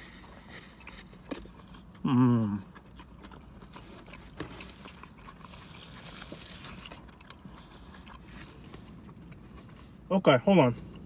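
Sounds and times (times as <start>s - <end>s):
person chewing food: 0.0s - 10.1s, 10.7s - 11.0s.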